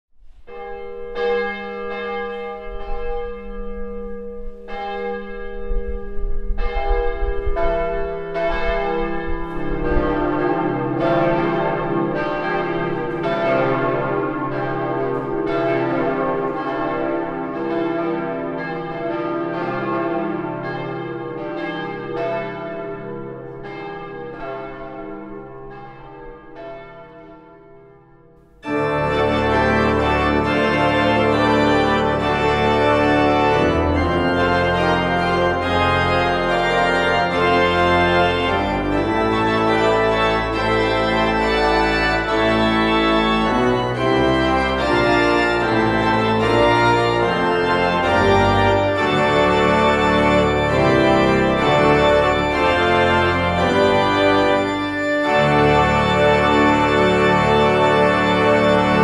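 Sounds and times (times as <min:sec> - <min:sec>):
church bells ringing: 0:00.4 - 0:59.0.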